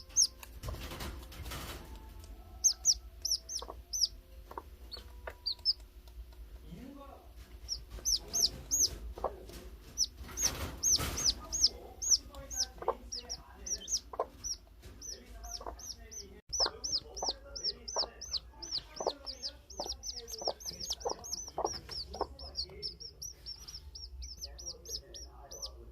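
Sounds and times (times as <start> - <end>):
hen clucking: 0.0 - 0.8, 2.6 - 5.9, 7.5 - 25.9
chicks peeping: 0.0 - 25.9.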